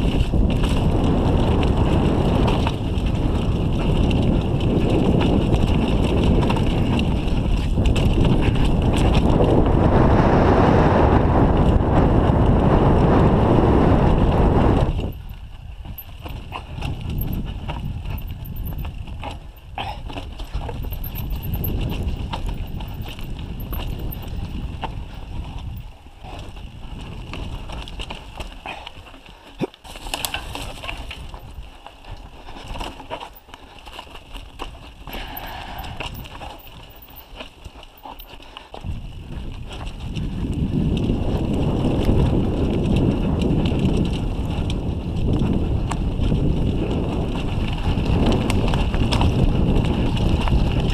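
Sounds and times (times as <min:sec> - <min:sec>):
bike rattling over stones: 0:00.0 - 0:10.1, 0:11.1 - 0:50.9
bike tyre noise: 0:00.0 - 0:50.9
wind buffeting the microphone: 0:00.0 - 0:50.9.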